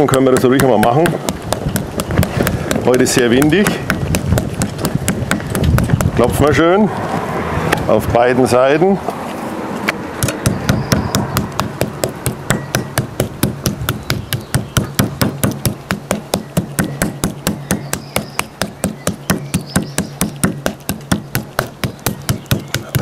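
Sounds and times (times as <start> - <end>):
meat mallet pounding on wood: 0.0 - 6.5, 10.2 - 23.0.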